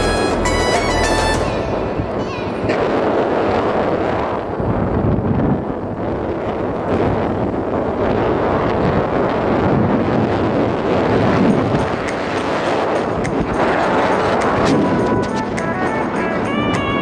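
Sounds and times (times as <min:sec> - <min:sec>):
motorcycle engine and road rumble: 0:00.0 - 0:17.0
wind buffeting microphone: 0:00.0 - 0:17.0.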